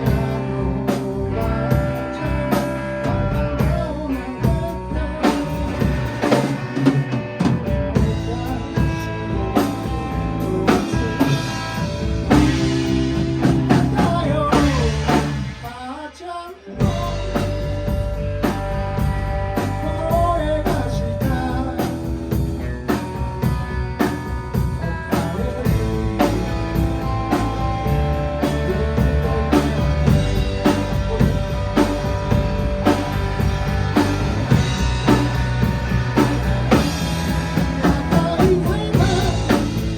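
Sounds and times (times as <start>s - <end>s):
bass guitar: 0.0s - 39.9s
drum kit: 0.0s - 39.9s
guitar: 0.0s - 39.9s.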